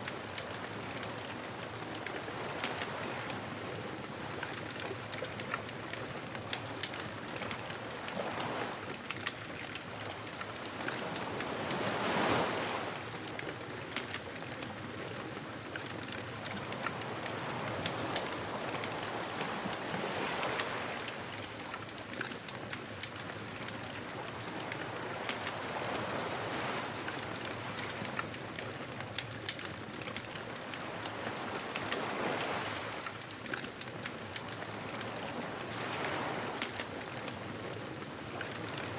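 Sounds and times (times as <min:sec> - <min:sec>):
waves washing onto beach: 0:00.0 - 0:38.9
bonfire crackling: 0:00.1 - 0:38.9.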